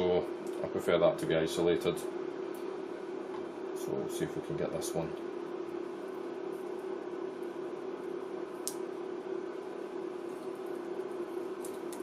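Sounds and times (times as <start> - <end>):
solder sizzling and crackling: 0.0 - 12.0
steady low hum: 0.0 - 12.0.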